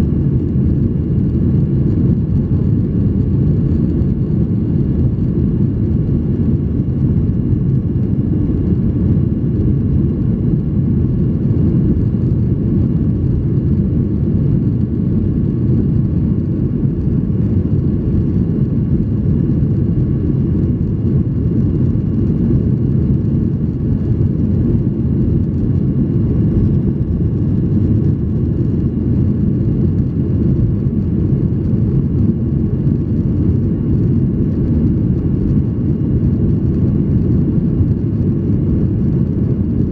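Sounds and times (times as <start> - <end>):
airplane cabin engine rush: 0.0 - 39.9
faint steady whining tones: 0.0 - 39.9.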